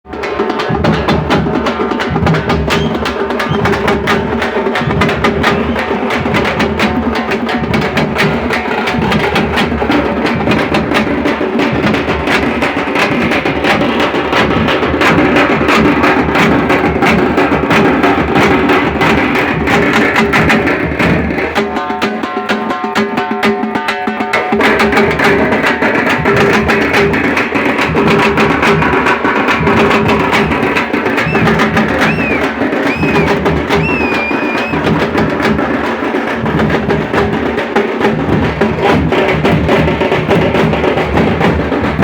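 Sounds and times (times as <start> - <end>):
frame drums beaten with sticks: 0.1 - 42.0.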